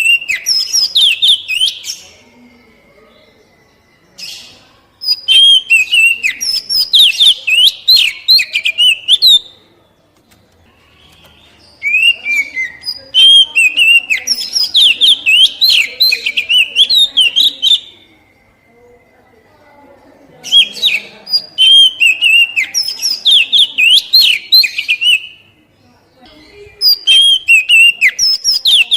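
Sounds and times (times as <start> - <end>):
magpie-robin singing: 0.0 - 19.2, 20.2 - 28.9.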